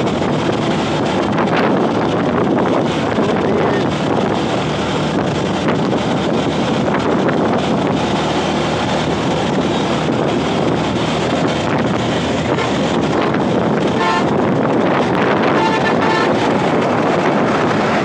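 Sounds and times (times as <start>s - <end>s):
motorcycle engine and road noise: 0.0s - 18.0s
wind rushing over microphone: 0.0s - 18.0s.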